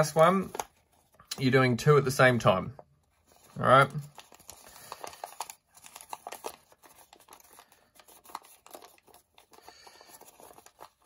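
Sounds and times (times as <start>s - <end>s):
paper crinkling and rustling: 0.0s - 1.6s, 3.0s - 11.0s.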